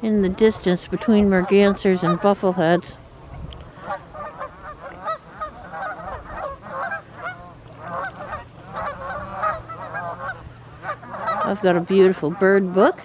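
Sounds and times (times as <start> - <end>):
geese honking: 0.1 - 13.0.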